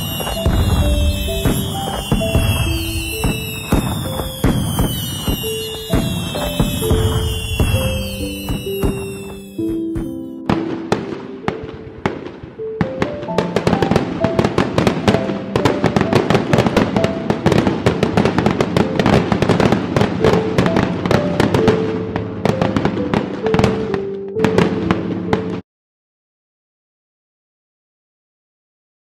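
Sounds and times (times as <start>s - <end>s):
fireworks crackling and popping: 0.0s - 25.6s
music with held notes: 0.0s - 25.6s.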